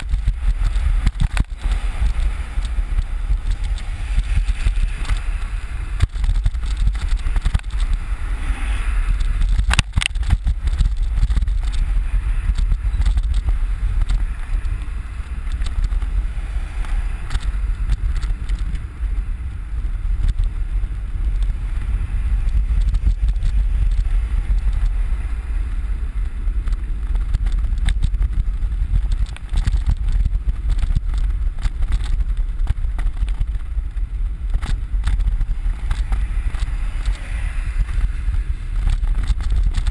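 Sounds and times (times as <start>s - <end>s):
bicycle clicks and rattles: 0.0s - 39.9s
wind rushing over microphone: 0.0s - 39.9s.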